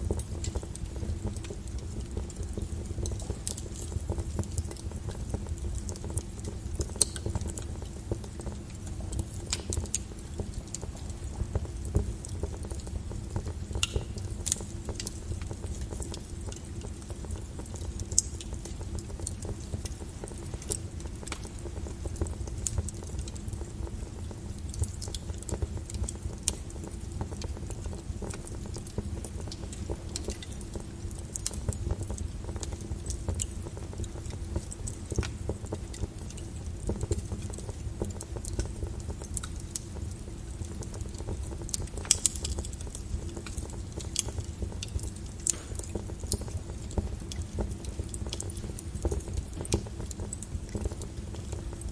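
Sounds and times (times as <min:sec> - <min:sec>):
low rumble of flame: 0:00.0 - 0:51.9
wood fire crackling: 0:00.0 - 0:51.9.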